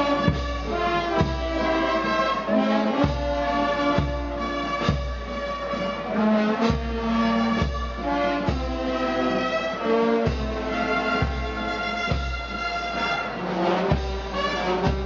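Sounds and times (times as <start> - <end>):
brass band playing slow march: 0.0 - 15.0.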